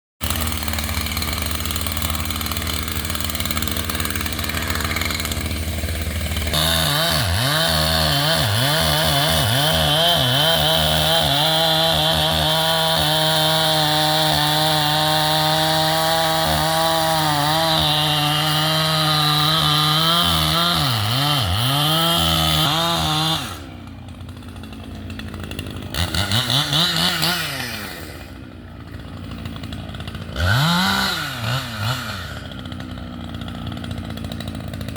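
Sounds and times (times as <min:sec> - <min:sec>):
chainsaw cutting wood: 0:00.2 - 0:34.9.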